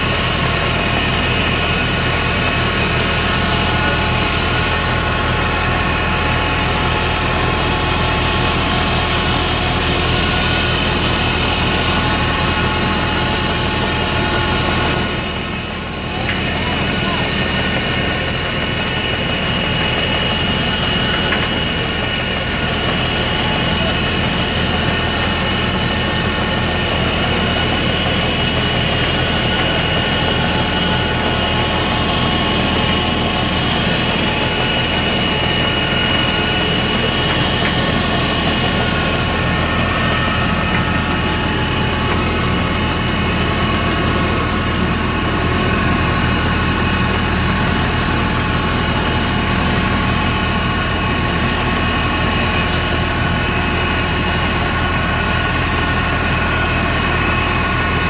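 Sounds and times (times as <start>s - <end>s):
harvester engine drone: 0.0s - 58.0s.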